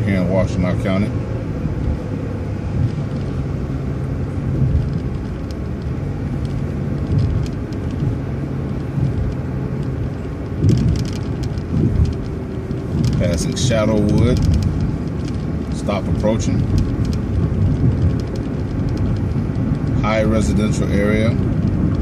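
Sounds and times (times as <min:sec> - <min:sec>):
bus engine hum: 0:00.0 - 0:22.0
road rumble: 0:00.0 - 0:22.0.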